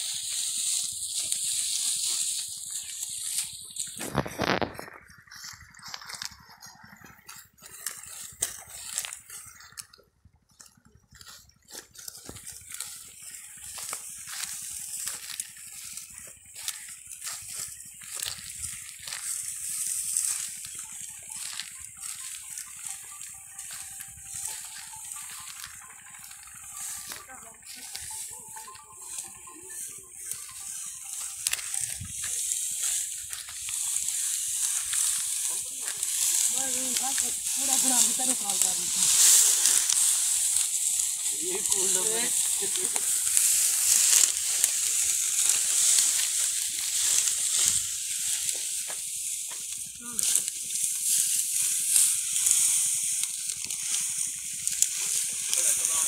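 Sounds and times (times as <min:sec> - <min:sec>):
steady high hiss: 0:00.0 - 0:04.8, 0:12.8 - 0:56.0
dry straw rustling and crackling: 0:00.0 - 0:56.0
footsteps through straw: 0:00.0 - 0:56.0.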